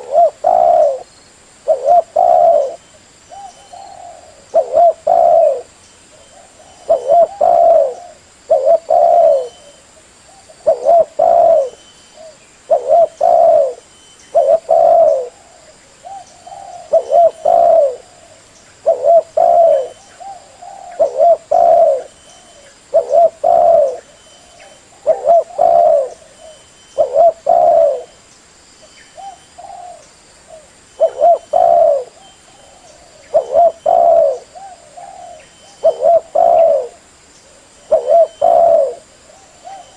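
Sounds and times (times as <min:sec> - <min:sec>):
dove cooing: 0:00.0 - 0:28.2, 0:29.2 - 0:39.9.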